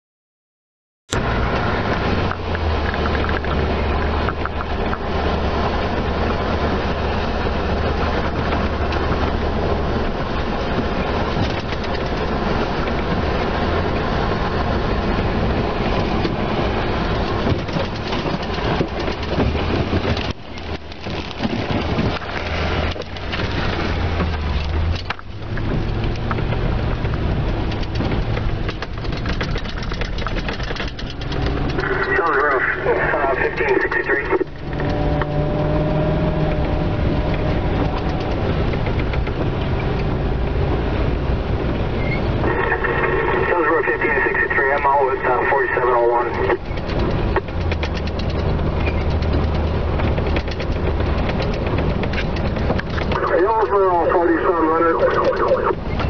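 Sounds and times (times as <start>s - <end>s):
low engine hum: 1.1s - 56.0s
rain and wind against a car: 1.1s - 56.0s.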